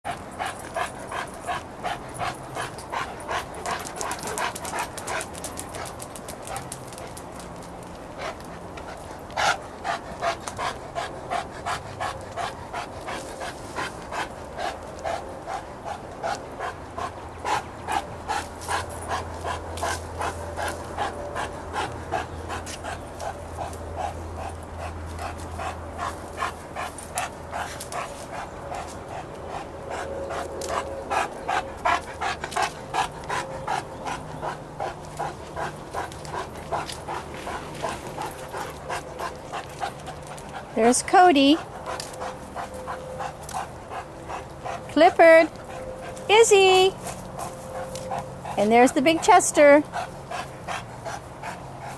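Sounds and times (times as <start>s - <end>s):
dog panting: 0.0s - 51.9s.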